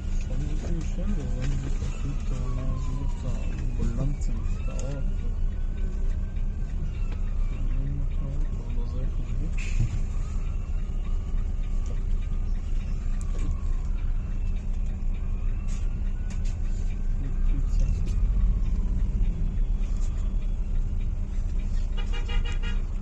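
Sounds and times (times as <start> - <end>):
engine and tyres rumbling: 0.0 - 23.0.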